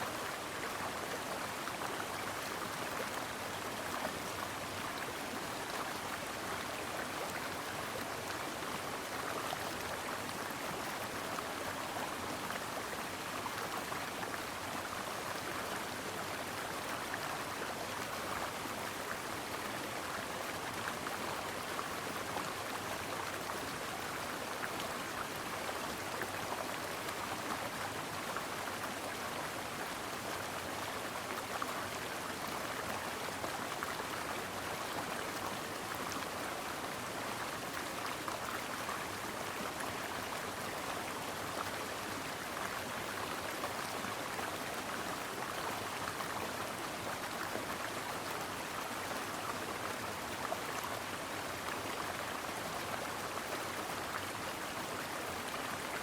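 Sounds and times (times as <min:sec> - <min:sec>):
brook flowing over rocks: 0:00.0 - 0:56.0.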